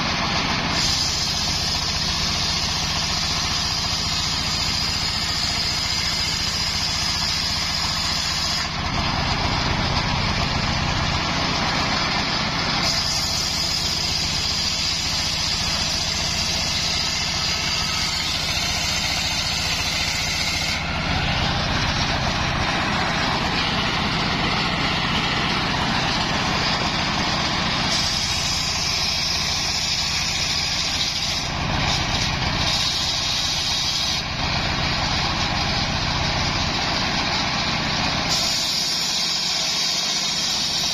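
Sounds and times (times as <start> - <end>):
circular sawmill cutting log: 0.0 - 40.9.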